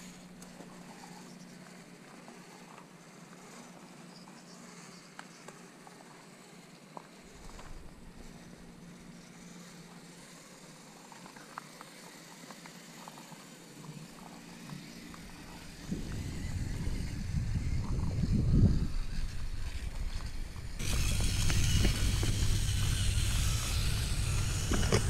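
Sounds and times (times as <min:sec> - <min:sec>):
electric motor and gears whining: 0:00.0 - 0:25.0.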